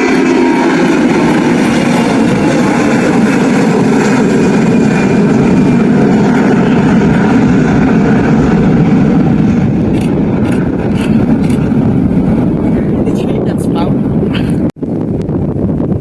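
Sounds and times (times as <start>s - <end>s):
aircraft engines roaring: 0.0s - 16.0s.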